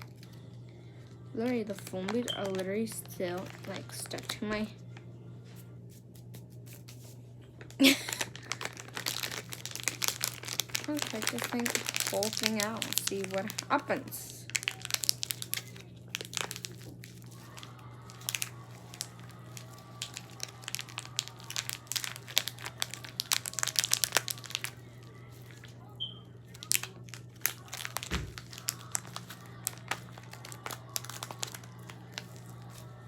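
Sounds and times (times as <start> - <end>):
plastic packaging crinkling: 0.0 - 4.7, 6.2 - 33.0
steady low hum: 0.0 - 33.0.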